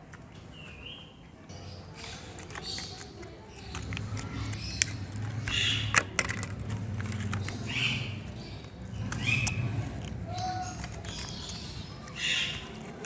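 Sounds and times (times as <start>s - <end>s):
plastic cups crinkling: 1.9s - 13.0s.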